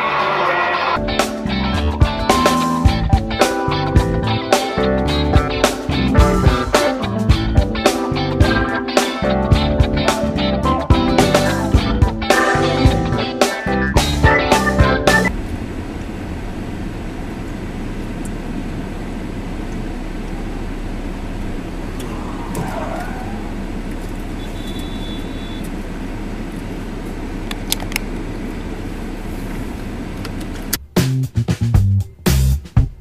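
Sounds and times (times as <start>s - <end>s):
car road and engine noise: 0.0s - 31.1s.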